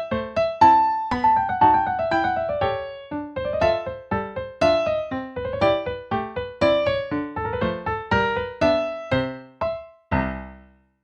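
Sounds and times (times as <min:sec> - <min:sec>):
piano notes ringing: 0:00.0 - 0:10.7.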